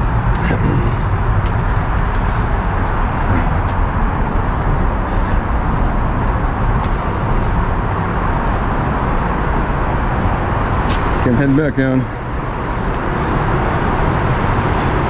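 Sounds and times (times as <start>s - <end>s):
heavy freeway traffic roar: 0.0s - 15.0s.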